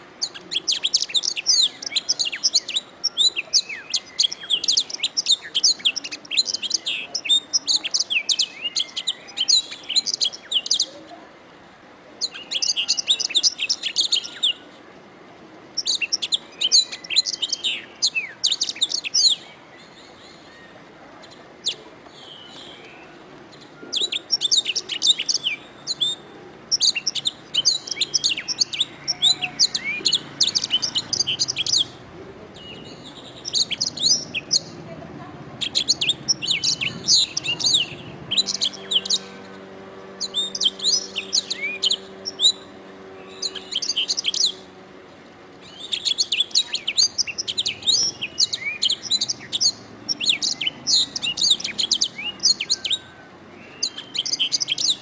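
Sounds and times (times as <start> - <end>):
canary singing trills: 0.0 - 11.2, 12.2 - 14.7, 15.7 - 55.0.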